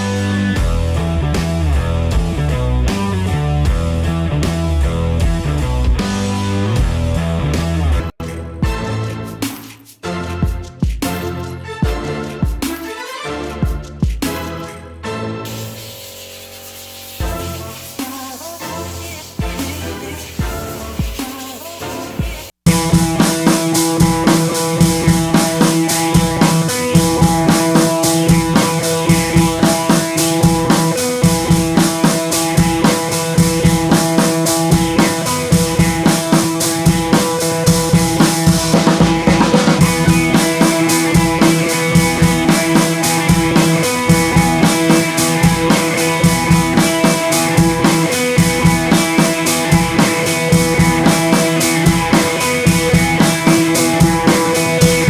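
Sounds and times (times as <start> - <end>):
drum kit beat: 0.0 - 7.1, 8.6 - 14.6, 15.5 - 55.0
guitar: 0.0 - 55.0.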